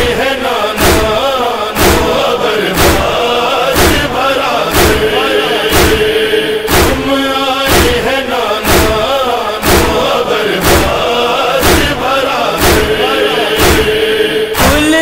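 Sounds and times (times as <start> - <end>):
voices chanting a slow lament: 0.0 - 15.0
chest-beating thuds: 0.7 - 15.0.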